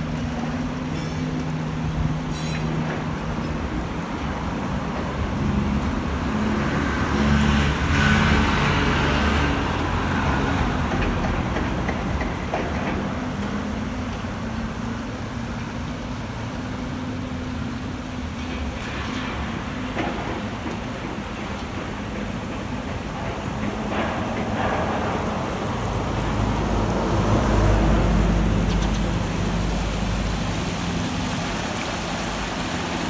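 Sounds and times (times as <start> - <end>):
road traffic hum: 0.0 - 33.0.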